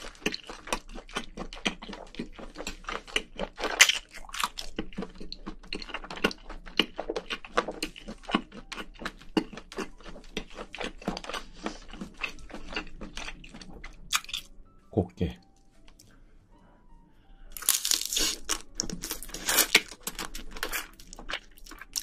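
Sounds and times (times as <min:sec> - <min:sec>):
person chewing food: 0:00.0 - 0:14.6, 0:17.5 - 0:22.0.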